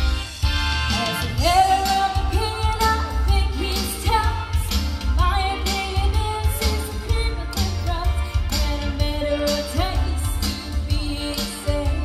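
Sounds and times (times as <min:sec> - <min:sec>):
drum and bass beat: 0:00.0 - 0:12.0
woman singing: 0:01.4 - 0:12.0.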